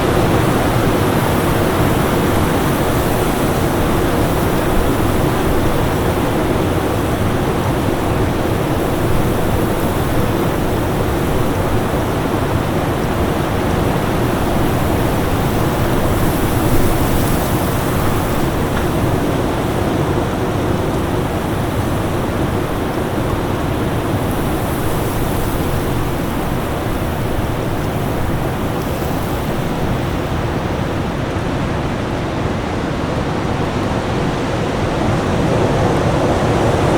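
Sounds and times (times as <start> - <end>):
strong wind rushing: 0.0 - 36.9.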